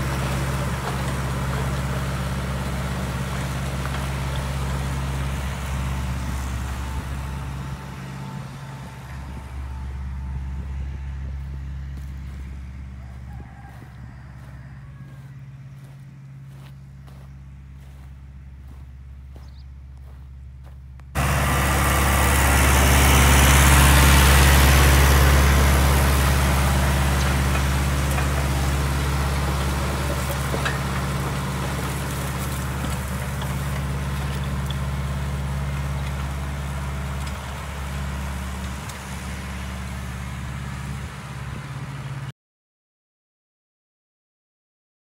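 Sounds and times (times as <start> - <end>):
tractor engine under load: 0.0 - 42.3.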